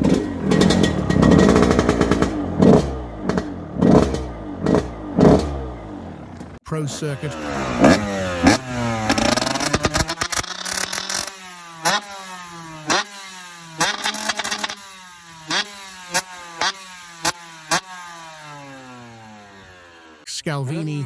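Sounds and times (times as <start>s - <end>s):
motocross engine revving: 0.0s - 20.3s.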